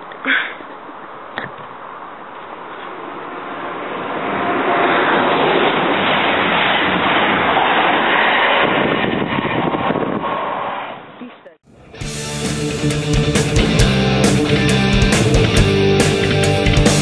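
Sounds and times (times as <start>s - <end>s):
train passing at speed: 2.9s - 17.0s.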